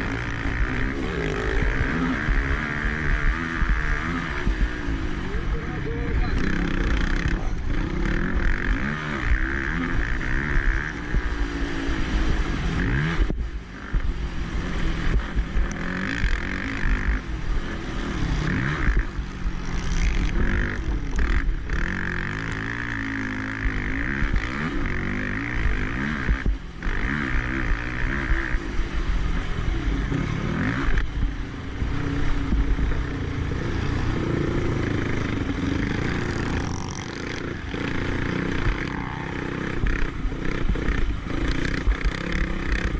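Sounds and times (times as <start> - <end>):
quad engine revving: 0.0 - 14.0, 14.6 - 42.9.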